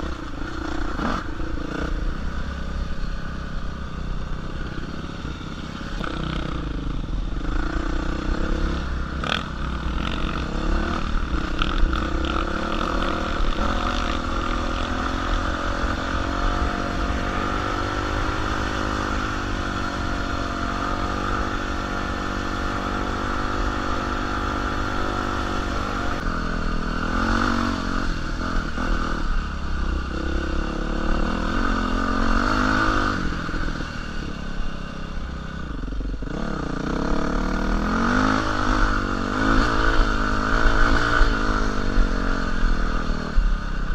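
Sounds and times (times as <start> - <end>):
dirt bike engine: 0.0 - 43.9.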